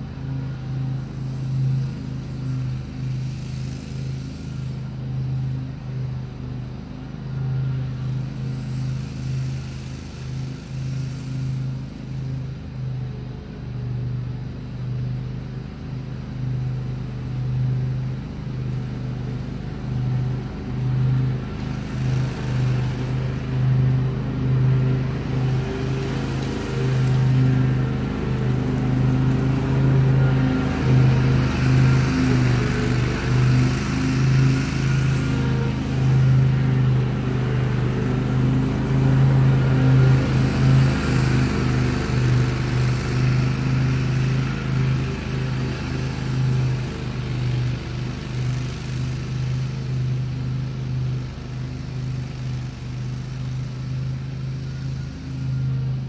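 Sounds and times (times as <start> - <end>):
riding mower engine hum: 0.0 - 56.0.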